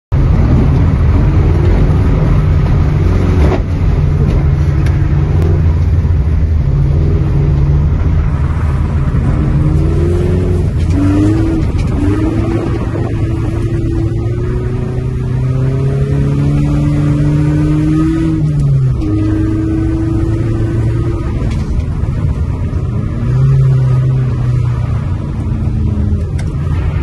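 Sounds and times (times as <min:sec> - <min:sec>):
rally car engine revving: 0:00.1 - 0:27.0.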